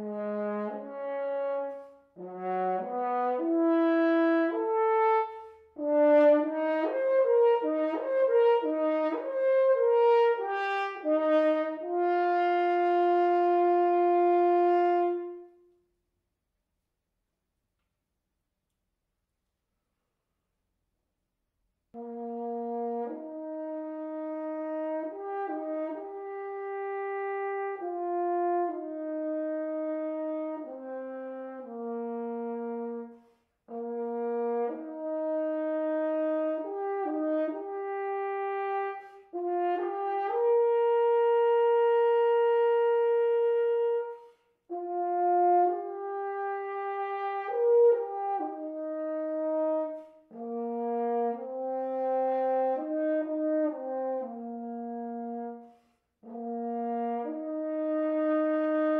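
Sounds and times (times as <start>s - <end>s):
french horn melody: 0.0s - 15.8s, 22.0s - 58.9s.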